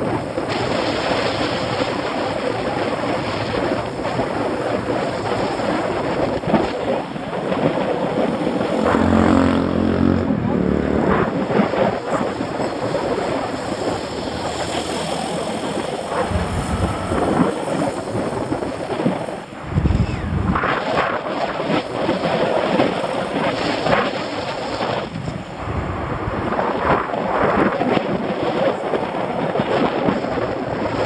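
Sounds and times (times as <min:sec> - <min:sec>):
road and traffic noise: 0:00.0 - 0:31.0
wind buffeting microphone: 0:00.0 - 0:31.0.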